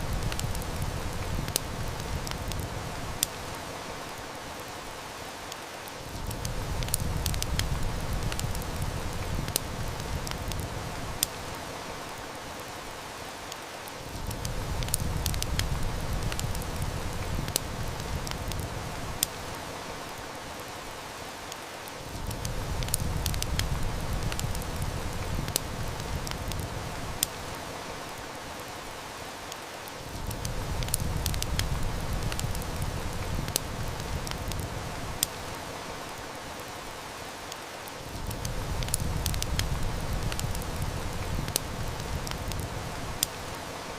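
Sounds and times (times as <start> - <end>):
heavy rain hissing: 0.0 - 43.9
wood fire crackling and popping: 0.0 - 43.9.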